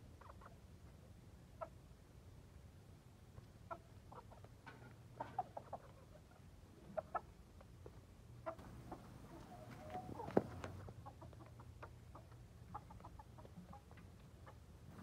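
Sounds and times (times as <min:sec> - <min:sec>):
chickens clucking: 0:00.0 - 0:02.1, 0:03.4 - 0:15.0.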